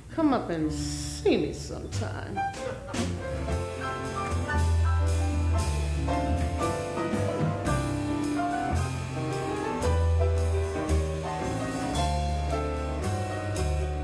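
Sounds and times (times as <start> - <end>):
deep bass line: 0.8 - 14.0
jazz band playing: 1.5 - 14.0
drum kit with cymbal strokes: 1.9 - 14.0.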